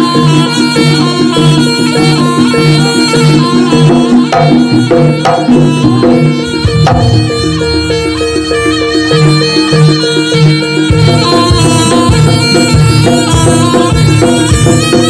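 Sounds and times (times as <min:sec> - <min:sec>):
drums and struck percussion: 0:00.0 - 0:15.0
gamelan music: 0:00.0 - 0:15.0
long held melody notes: 0:00.0 - 0:15.0.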